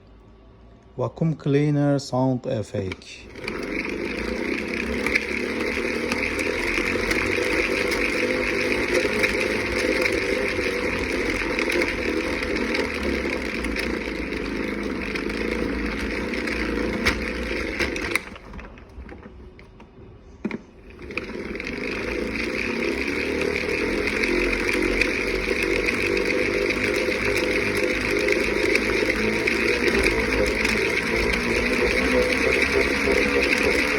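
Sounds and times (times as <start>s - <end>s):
vacuum cleaner wheel rattling buzz: 2.8s - 19.8s, 20.4s - 33.9s.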